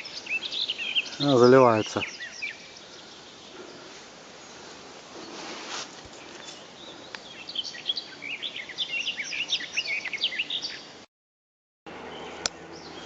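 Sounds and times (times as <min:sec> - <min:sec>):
songbird chirping: 0:00.0 - 0:11.0, 0:11.9 - 0:13.0.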